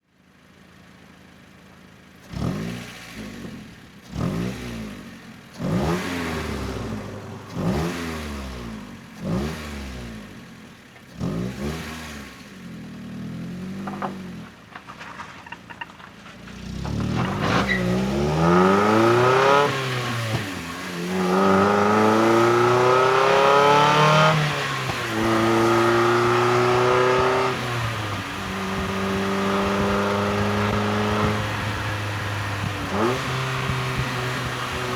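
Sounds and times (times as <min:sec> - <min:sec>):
car engine revving: 0:02.2 - 0:34.9.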